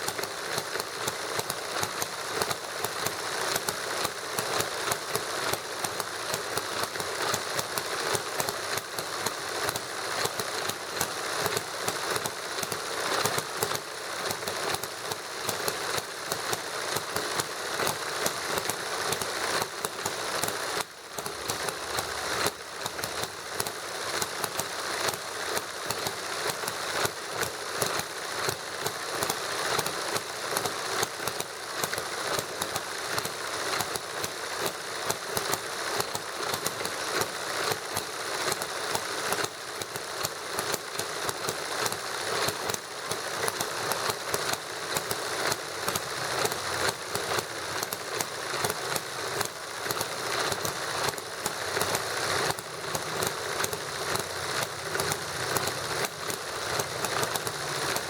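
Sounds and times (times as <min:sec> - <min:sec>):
model engine clattering: 0:00.0 - 0:58.0.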